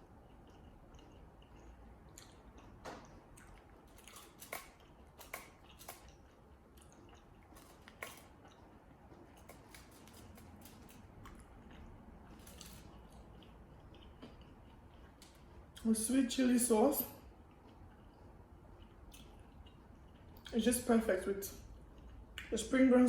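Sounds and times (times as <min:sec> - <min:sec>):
person chewing: 0:00.0 - 0:16.2, 0:17.2 - 0:20.6, 0:21.6 - 0:22.6.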